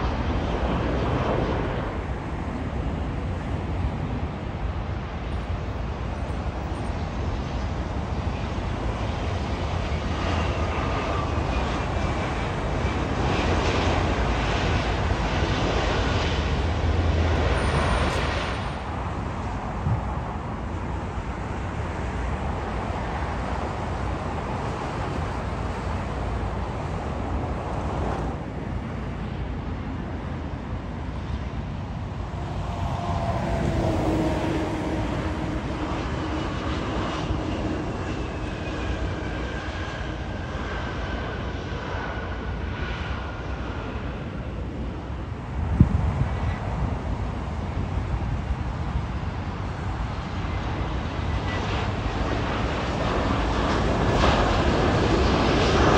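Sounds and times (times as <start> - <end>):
jet airliner landing: 0.0 - 55.9.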